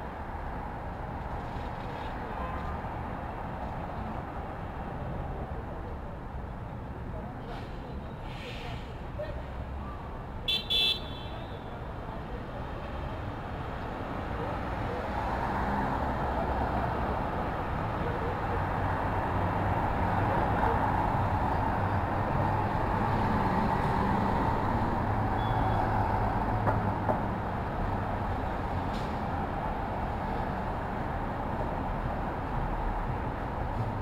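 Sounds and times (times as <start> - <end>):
street traffic road noise: 0.0 - 34.0.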